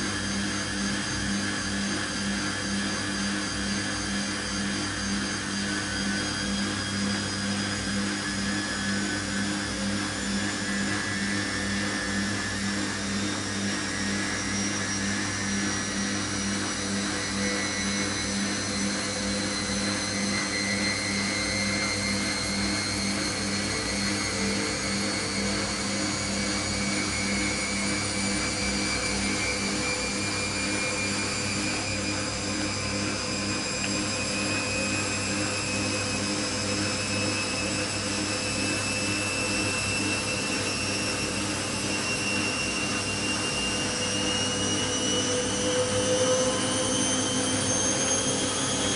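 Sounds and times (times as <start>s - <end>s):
rising motor whine: 0.0s - 48.9s.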